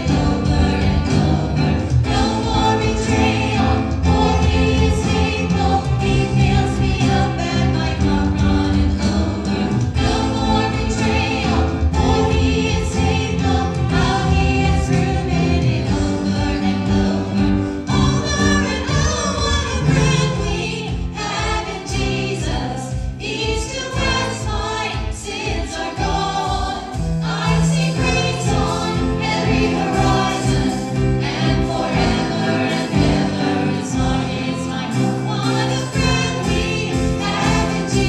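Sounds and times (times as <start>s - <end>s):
instrumental accompaniment: 0.0s - 38.0s
voices singing worship song: 0.0s - 38.0s.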